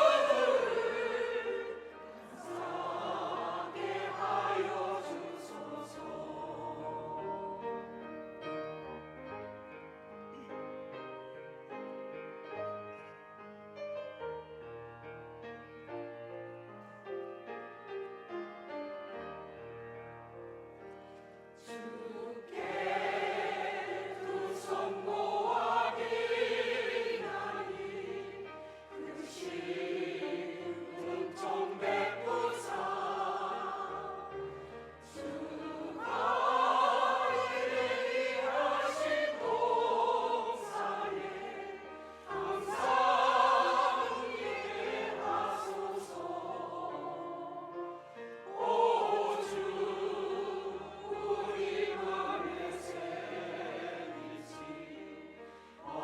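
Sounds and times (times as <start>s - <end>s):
church choir singing a hymn: 0.0s - 13.0s, 20.3s - 56.0s.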